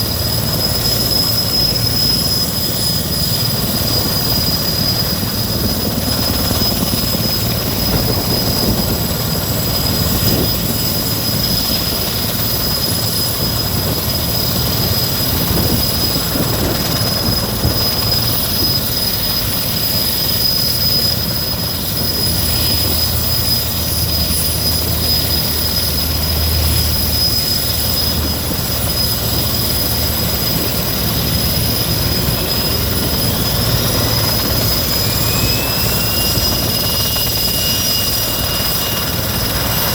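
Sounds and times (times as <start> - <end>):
helicopter turbine engines running: 0.0 - 39.9
turbine engines spooling up: 0.0 - 39.9.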